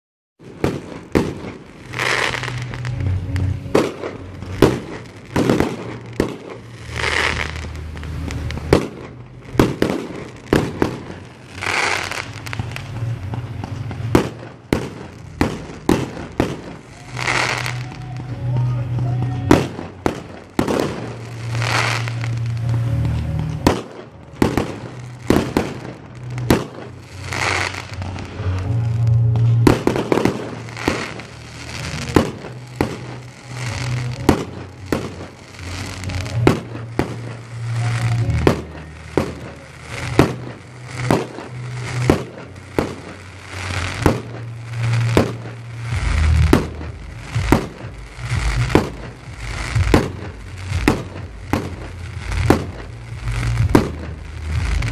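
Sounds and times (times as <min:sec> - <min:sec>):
fireworks crackling: 0:00.4 - 0:54.9.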